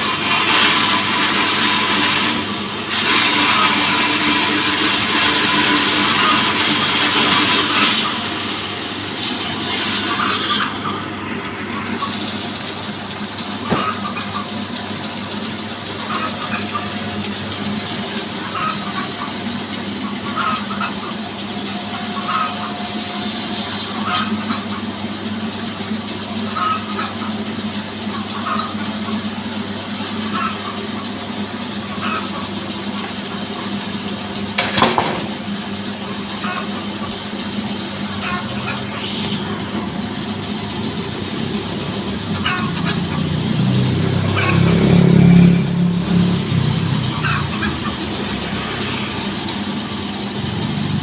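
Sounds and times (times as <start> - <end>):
petrol engine running: 0.0 - 51.0.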